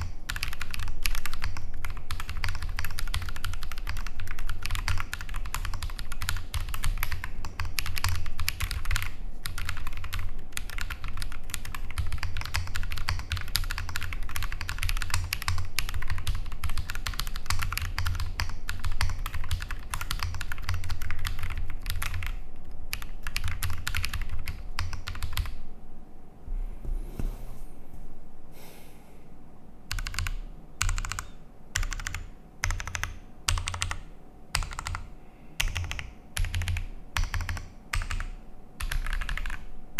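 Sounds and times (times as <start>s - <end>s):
mechanical keyboard typing: 0.0s - 25.6s, 29.9s - 39.7s.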